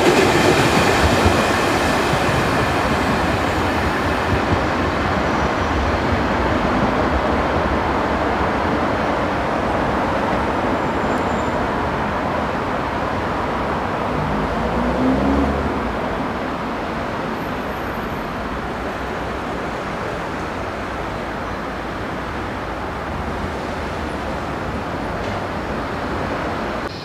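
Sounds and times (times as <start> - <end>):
train whine and running noise: 0.0 - 27.0.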